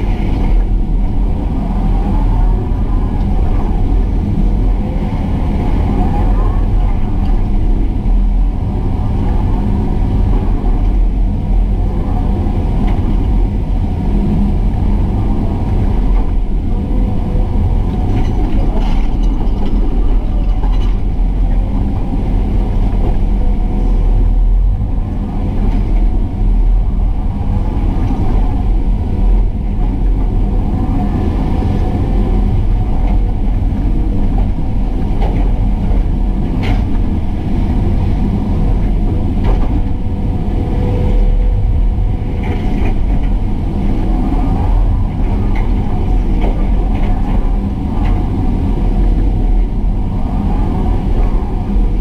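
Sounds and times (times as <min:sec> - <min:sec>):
excavator diesel engine rumbling: 0:00.0 - 0:52.0.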